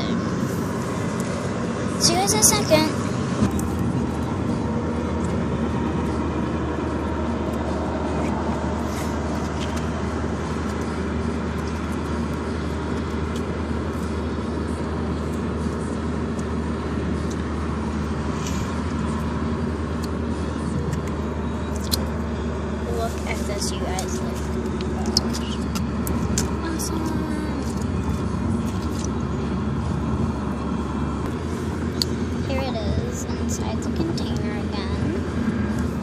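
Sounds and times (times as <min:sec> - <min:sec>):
low rumble and hum: 0:00.0 - 0:36.0.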